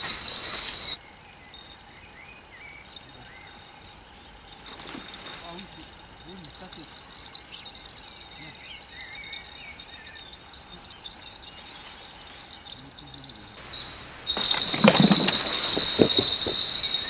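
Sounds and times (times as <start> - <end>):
bird chirping: 0.0 - 17.0
crickets chirring: 0.0 - 17.0.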